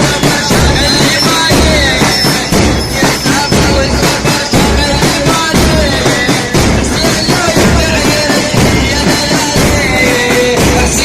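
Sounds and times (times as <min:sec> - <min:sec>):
heavy percussion beat: 0:00.0 - 0:11.0.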